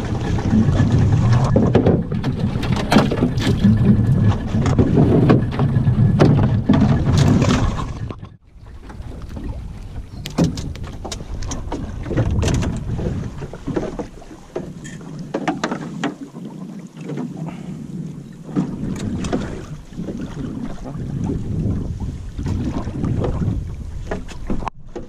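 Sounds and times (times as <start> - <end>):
water lapping against hull: 0.0 - 25.0
wind on microphone: 0.0 - 25.0.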